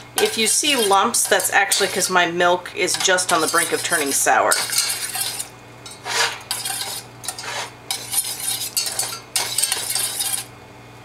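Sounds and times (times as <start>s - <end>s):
whisk scraping a metal saucepan: 0.0s - 10.5s.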